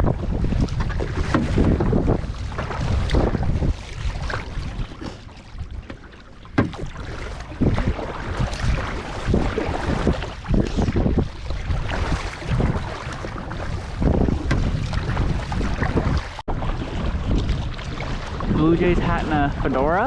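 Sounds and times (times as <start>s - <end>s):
paddle splashing in water: 0.0s - 19.8s
wind rumbling on microphone: 0.0s - 20.0s.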